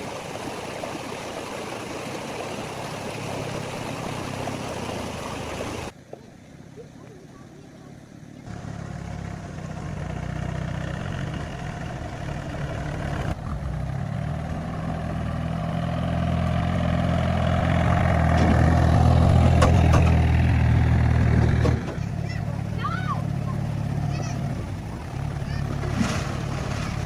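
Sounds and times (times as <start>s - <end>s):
vehicle engine humming: 0.0s - 5.9s, 8.4s - 27.0s.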